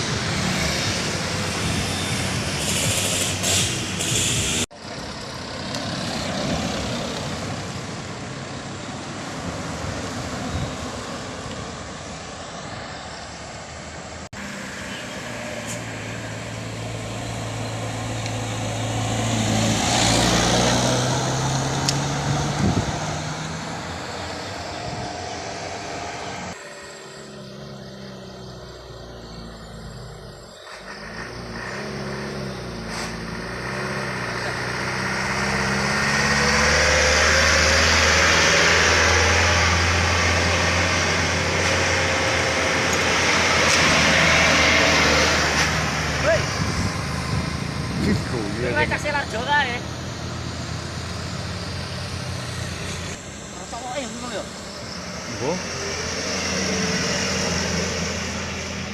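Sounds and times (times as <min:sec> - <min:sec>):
road noise: 0:00.0 - 0:58.9.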